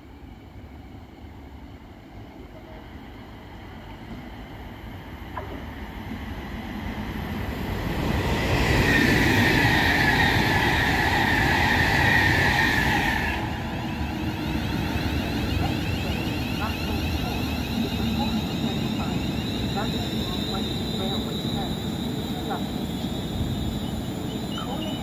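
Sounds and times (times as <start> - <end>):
high train whine: 0.0 - 25.0
train rumbling past: 0.0 - 25.0.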